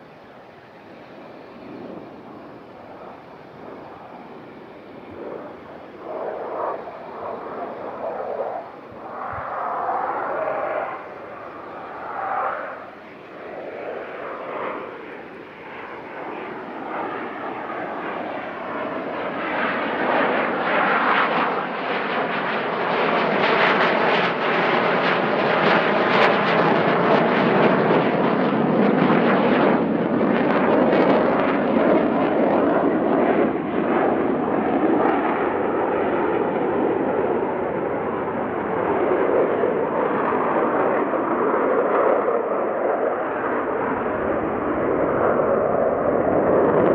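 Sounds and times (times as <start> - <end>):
fighter jet engine roar: 0.0 - 46.9
jet crackling flutter: 1.6 - 46.9.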